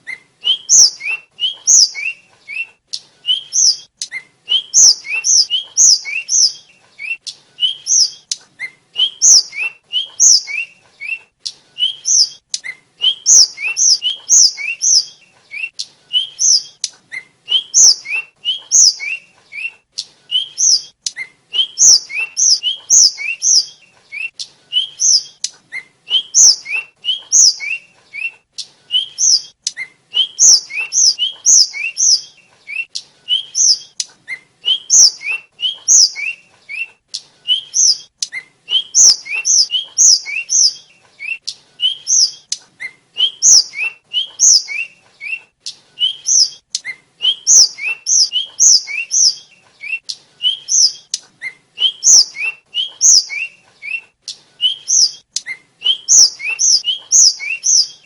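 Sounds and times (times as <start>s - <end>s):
flycatcher singing: 0.4s - 8.4s, 9.0s - 25.5s, 26.1s - 36.9s, 37.5s - 42.6s, 43.2s - 45.4s, 46.0s - 51.2s, 51.8s - 54.0s, 54.6s - 58.0s.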